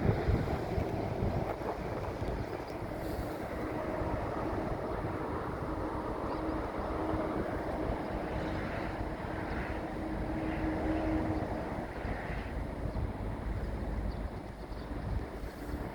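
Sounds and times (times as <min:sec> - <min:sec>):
wind rumble on microphone: 0:00.0 - 0:15.9.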